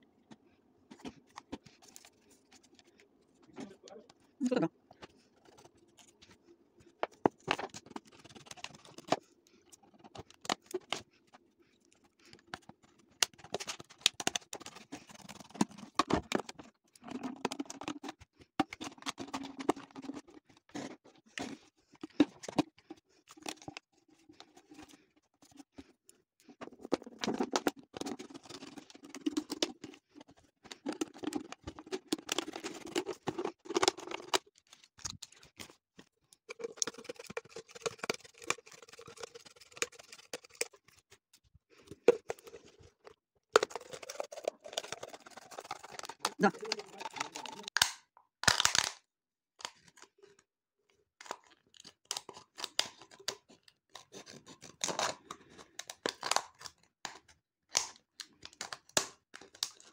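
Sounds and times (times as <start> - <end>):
objects handled clicking and rustling: 4.9 - 49.0, 51.2 - 59.9.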